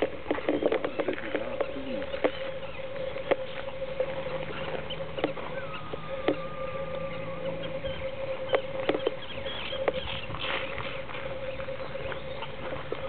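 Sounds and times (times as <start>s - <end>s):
goslings peeping: 0.0s - 13.0s
steady hum: 0.0s - 13.0s.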